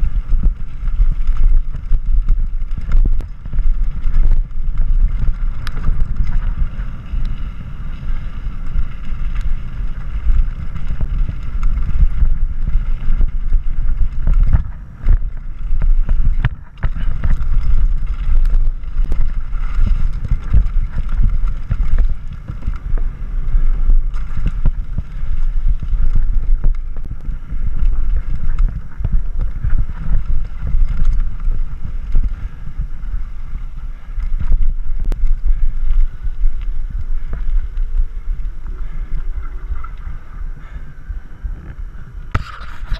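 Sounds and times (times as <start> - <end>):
tyres rumbling on gravel: 0.0 - 40.8
bike clicks and rattles: 0.0 - 42.9
wind buffeting microphone: 0.0 - 42.9.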